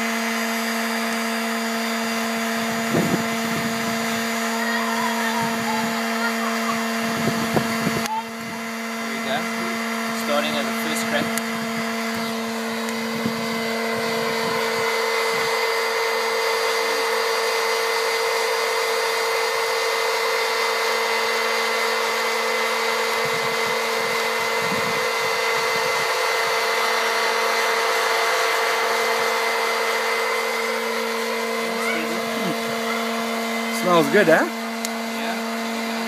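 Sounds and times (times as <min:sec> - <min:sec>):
air blowing coffee beans: 0:00.0 - 0:36.0
fan motor humming: 0:00.0 - 0:36.0.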